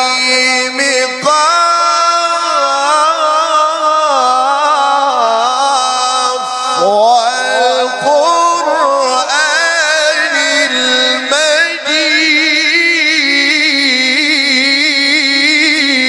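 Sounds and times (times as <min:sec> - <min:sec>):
man chanting recitation: 0:00.0 - 0:16.0.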